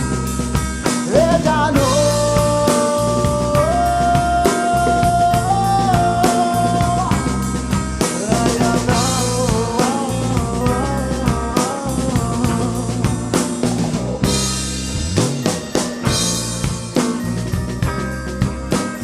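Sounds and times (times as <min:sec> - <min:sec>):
bass guitar: 0:00.0 - 0:19.0
drum kit: 0:00.0 - 0:19.0.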